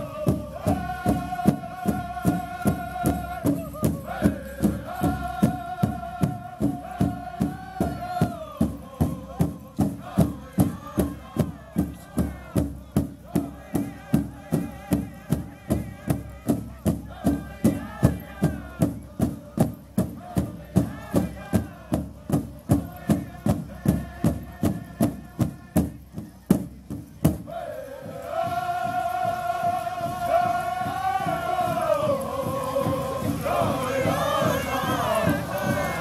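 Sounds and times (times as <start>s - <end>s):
men singing in a group: 0.0s - 26.0s, 27.5s - 36.0s
big drum steady beat: 0.0s - 36.0s.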